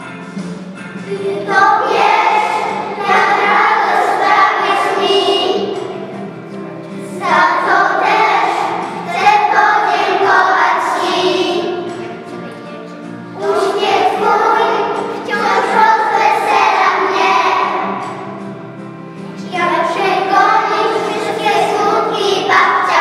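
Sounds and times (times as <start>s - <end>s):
children singing in unison: 1.0s - 12.2s, 13.3s - 18.6s, 19.4s - 23.0s.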